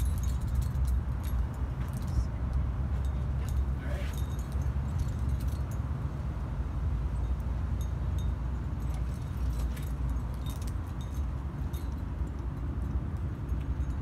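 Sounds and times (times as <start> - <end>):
climbing gear clinking: 0.0 - 6.0, 7.2 - 14.0.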